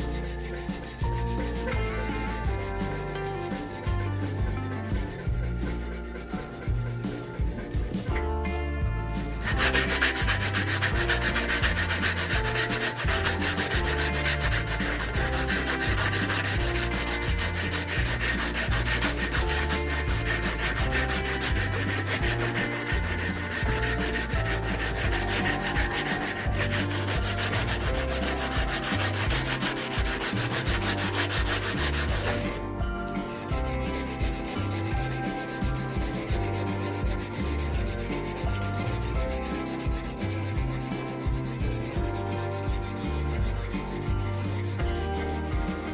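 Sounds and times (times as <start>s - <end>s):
abrasive scrubbing rusty steel: 0.0s - 8.2s, 8.8s - 45.9s.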